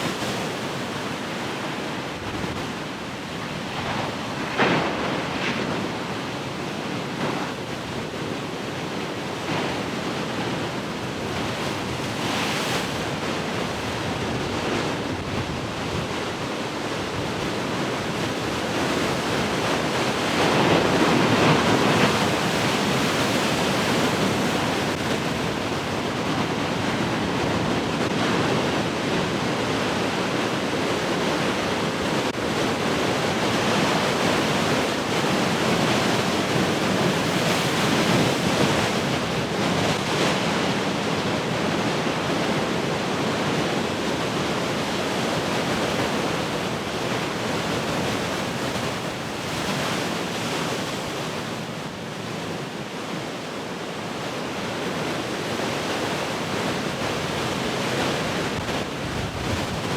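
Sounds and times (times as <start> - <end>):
ocean waves breaking: 0.0 - 53.2
wind: 0.0 - 59.9.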